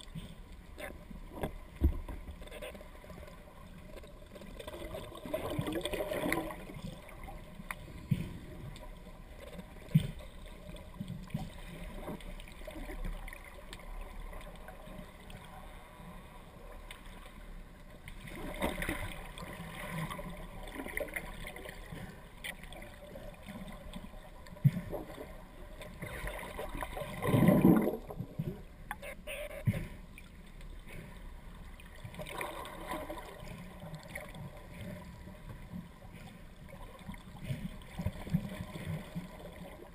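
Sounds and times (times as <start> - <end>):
water rushing and gurgling: 0.0 - 39.9.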